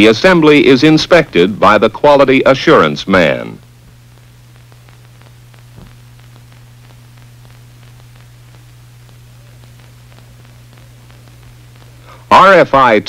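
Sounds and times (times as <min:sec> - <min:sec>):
low hum: 0:00.0 - 0:12.3
faint hiss: 0:00.0 - 0:13.0
film crackles and clicks: 0:00.0 - 0:13.0.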